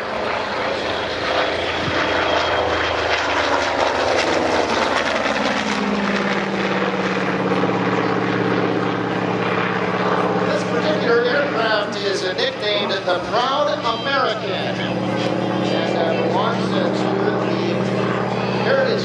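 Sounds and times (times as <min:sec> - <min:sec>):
propeller plane engine flyby: 0:00.0 - 0:19.0.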